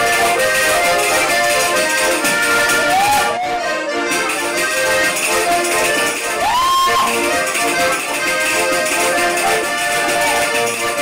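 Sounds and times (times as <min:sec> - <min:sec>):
button accordion playing lively tune: 0:00.0 - 0:11.0.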